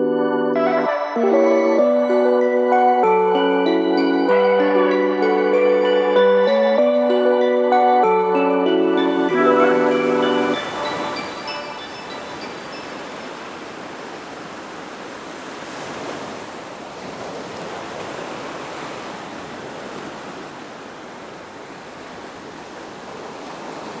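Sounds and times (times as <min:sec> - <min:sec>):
sea water and surf rushing: 0:00.5 - 0:24.0.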